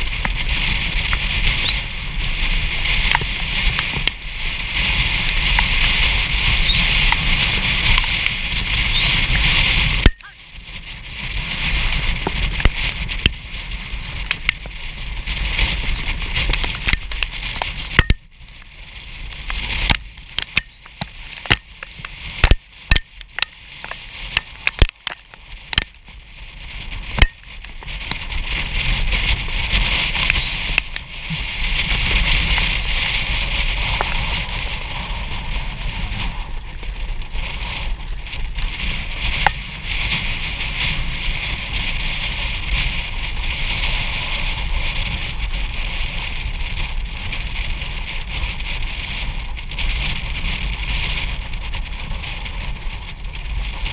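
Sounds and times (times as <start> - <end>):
rushing wind noise: 0.0 - 53.9
sharp clicks and crackles: 0.0 - 53.9.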